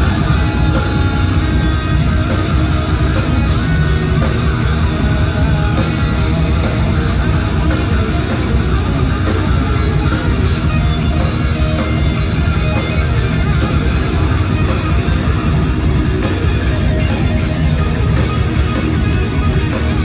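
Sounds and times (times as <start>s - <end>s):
distorted electric guitars: 0.0s - 20.0s
drum kit: 0.0s - 20.0s.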